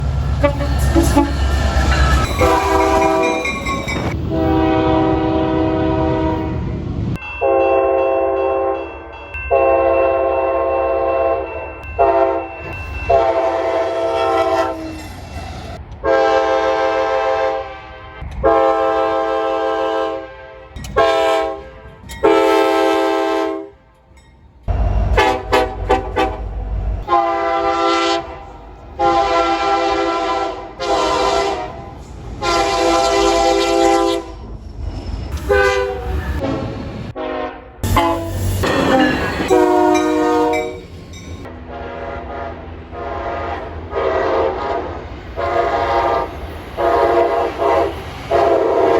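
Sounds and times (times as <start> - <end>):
passing train rumble: 0.0 - 48.9
locomotive air horn blasts: 0.3 - 3.6, 4.2 - 6.7, 9.5 - 12.5, 13.1 - 15.1, 16.0 - 23.9, 25.0 - 34.4, 35.4 - 40.8, 41.4 - 48.9.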